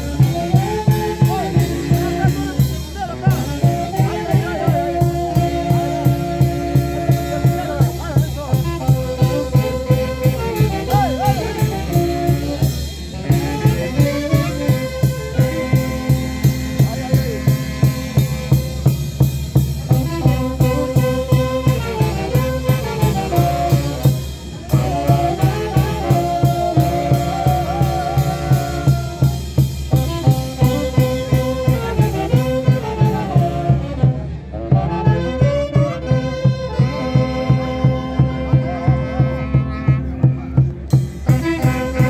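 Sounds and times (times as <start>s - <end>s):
steady drum beat: 0.0s - 34.2s, 40.2s - 42.0s
brass band playing dance tune: 0.0s - 42.0s.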